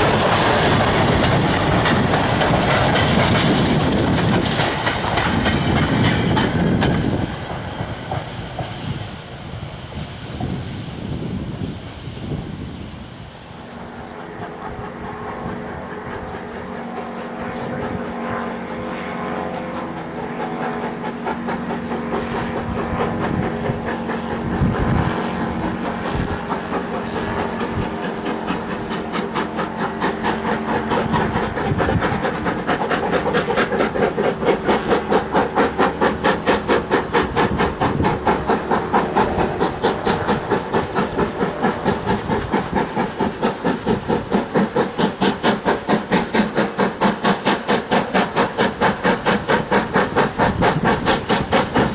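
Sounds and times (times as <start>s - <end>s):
steam hiss: 0.0s - 19.0s, 19.6s - 51.9s
steam locomotive chuffing: 0.0s - 51.9s.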